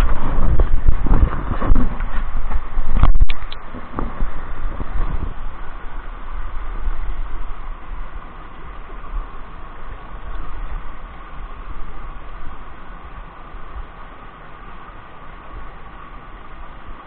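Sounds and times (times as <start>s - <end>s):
low rumble: 0.0s - 14.3s
stream rushing over stones: 0.0s - 17.0s.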